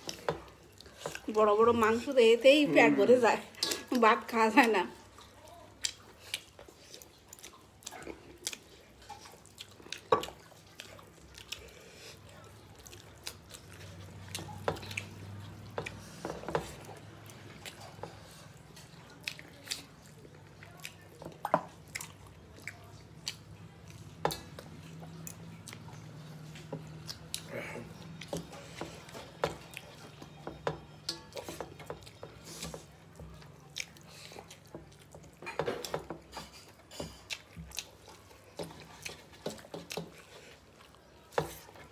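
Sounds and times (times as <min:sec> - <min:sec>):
chewing and lip-smacking: 0:00.0 - 0:01.4, 0:04.6 - 0:41.9.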